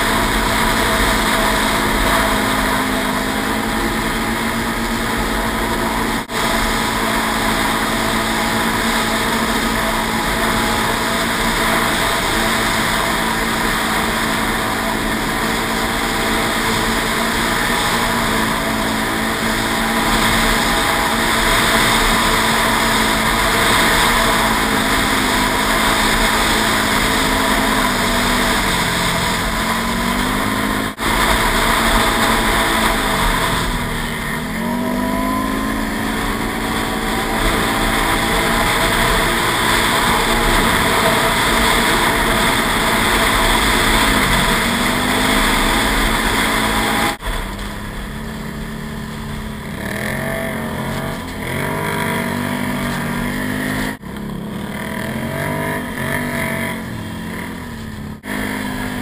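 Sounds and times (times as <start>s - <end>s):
atv engine running: 0.0s - 59.0s
steady rushing noise: 0.0s - 59.0s.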